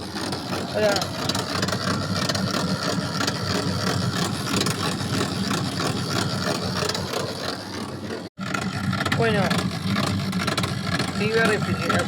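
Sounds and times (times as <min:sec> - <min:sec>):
washing machine rattling: 0:00.0 - 0:12.0.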